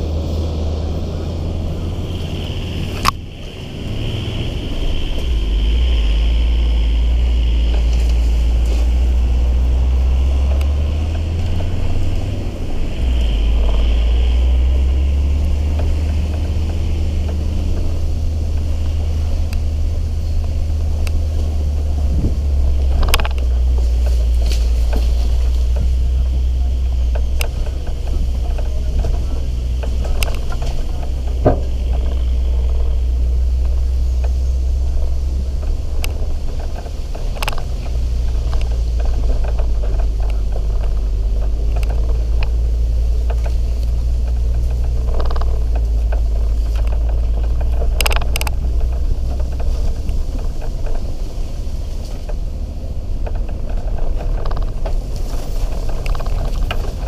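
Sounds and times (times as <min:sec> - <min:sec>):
vehicle engine and tyres rumbling: 0:00.0 - 0:57.0
knocks and clicks from bumps: 0:07.0 - 0:57.0.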